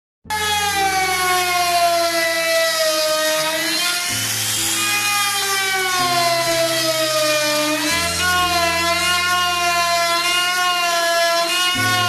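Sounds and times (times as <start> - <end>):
background music with bass line: 0.2 - 12.0
wood router whining: 0.2 - 12.0.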